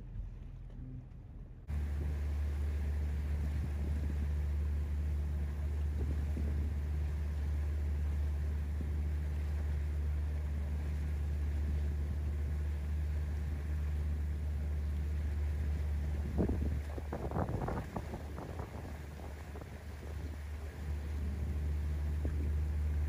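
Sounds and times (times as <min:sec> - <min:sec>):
low engine drone: 0:00.0 - 0:23.0.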